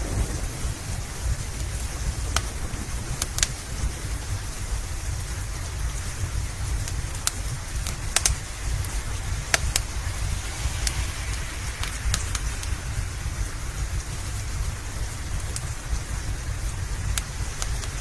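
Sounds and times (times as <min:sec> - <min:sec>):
low rumble: 0:00.0 - 0:18.0
rain hiss: 0:00.0 - 0:18.0
wood fire crackling and popping: 0:00.0 - 0:18.0.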